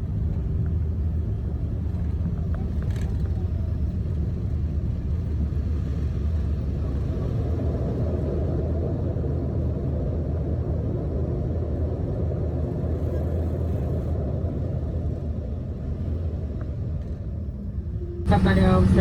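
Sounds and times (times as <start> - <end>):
jet engines low rumble: 0.0 - 19.0.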